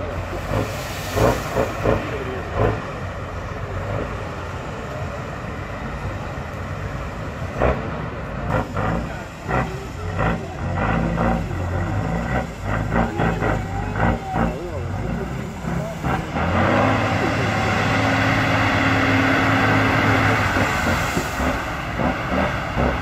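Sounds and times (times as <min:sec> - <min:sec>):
diesel truck engine under load: 0:00.0 - 0:23.0.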